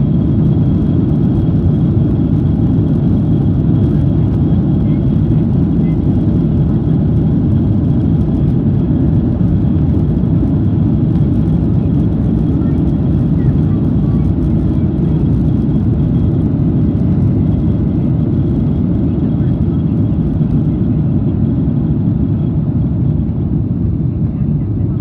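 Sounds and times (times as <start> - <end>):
jet airliner cabin rumble: 0.0 - 25.0.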